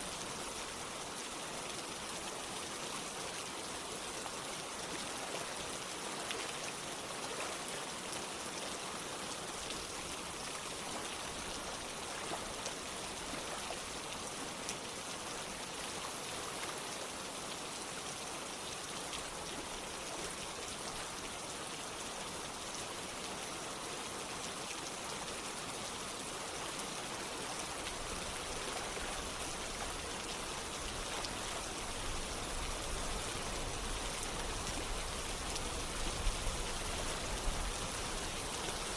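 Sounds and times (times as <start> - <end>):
low rush of water: 0.0 - 38.9
running water: 0.0 - 38.9
steady rain hiss: 0.0 - 38.9.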